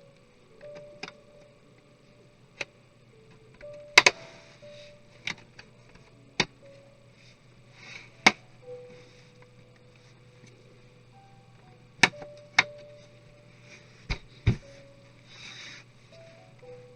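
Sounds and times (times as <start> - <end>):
faint background music: 0.0 - 16.9.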